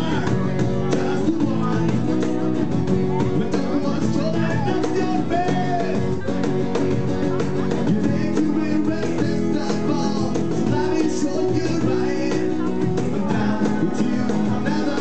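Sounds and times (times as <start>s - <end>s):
cajon beat: 0.0s - 15.0s
man singing: 0.0s - 15.0s
strummed acoustic guitars: 0.0s - 15.0s.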